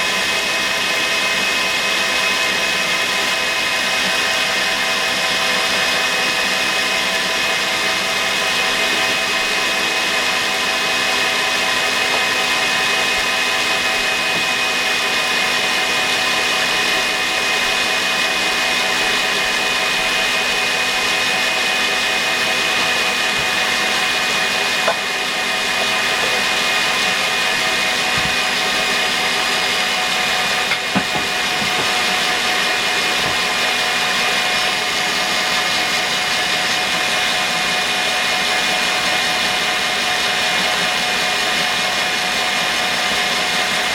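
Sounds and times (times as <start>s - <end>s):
electric mixer whining: 0.0s - 43.9s.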